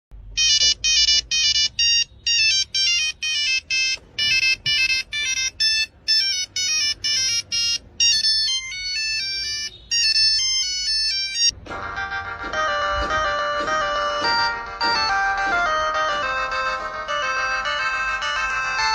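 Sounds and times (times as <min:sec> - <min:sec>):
mobile phone ringtone: 0:00.4 - 0:18.9.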